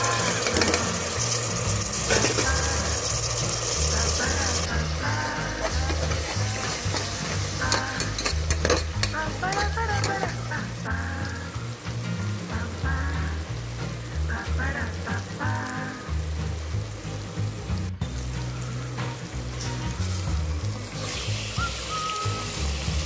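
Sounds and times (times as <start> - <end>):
background music with low beat: 0.0 - 23.0
food sizzling in hot oil: 0.0 - 23.0.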